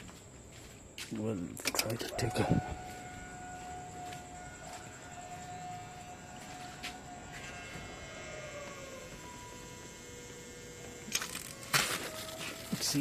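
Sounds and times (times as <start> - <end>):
fuel pump whining: 1.6 - 13.0.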